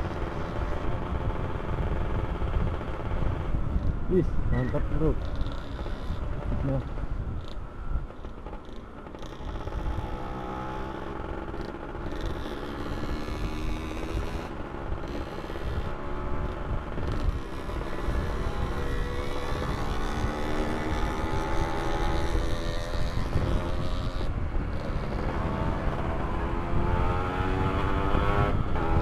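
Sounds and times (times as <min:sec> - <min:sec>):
wind rumble on microphone: 0:00.0 - 0:29.0
two-stroke motorcycle engine: 0:05.0 - 0:29.0.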